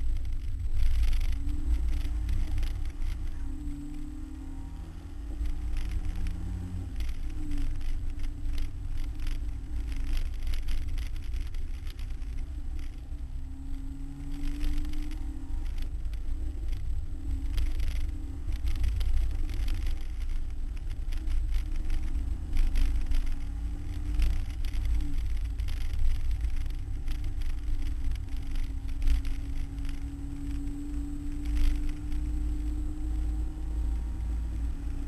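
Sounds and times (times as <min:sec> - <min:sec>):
car engine running hard: 0:00.0 - 0:35.0
low rumble with knocks: 0:00.0 - 0:35.0.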